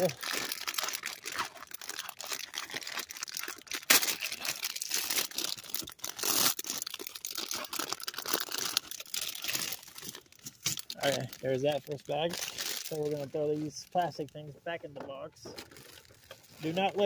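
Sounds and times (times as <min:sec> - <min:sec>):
plastic bag crinkling: 0:00.0 - 0:14.4, 0:15.5 - 0:17.0.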